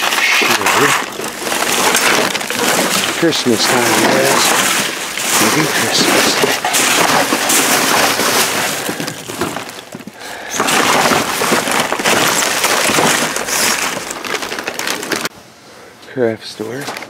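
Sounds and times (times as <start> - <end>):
plastic bags and bubble wrap crinkling: 0.0 - 15.3, 16.6 - 17.0.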